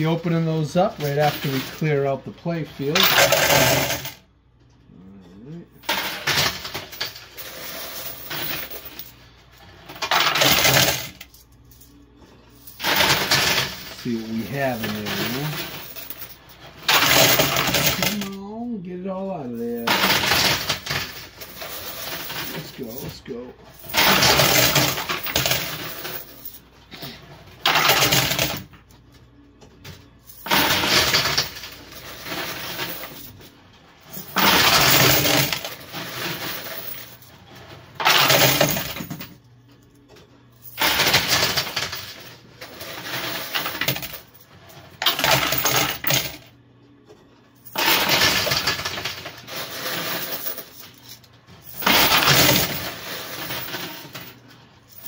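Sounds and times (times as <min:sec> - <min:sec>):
coins clattering into coin pusher: 0:00.0 - 0:04.3, 0:05.8 - 0:18.6, 0:19.5 - 0:28.9, 0:29.8 - 0:39.5, 0:40.5 - 0:46.5, 0:47.6 - 0:55.0.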